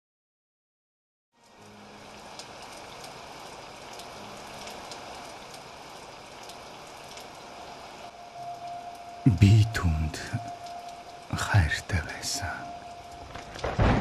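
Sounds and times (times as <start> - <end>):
single raindrops ticking: 1.4 - 14.0
steady rain hiss: 1.4 - 14.0.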